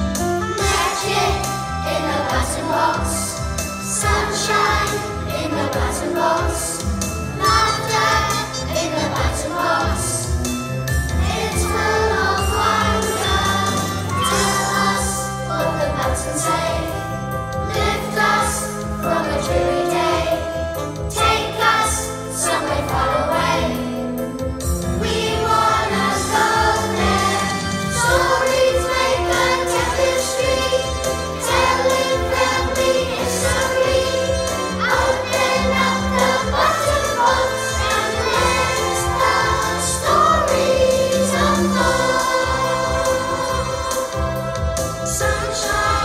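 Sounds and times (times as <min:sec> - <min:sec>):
instrumental accompaniment: 0:00.0 - 0:46.0
children's choir singing: 0:00.6 - 0:24.2, 0:24.9 - 0:46.0.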